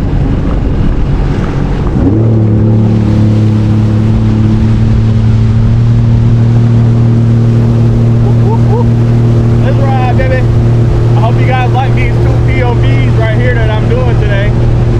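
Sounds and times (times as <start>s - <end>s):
jet ski engine throttling up: 0.0s - 14.9s
water noise: 0.0s - 14.9s
wind noise: 0.0s - 14.9s.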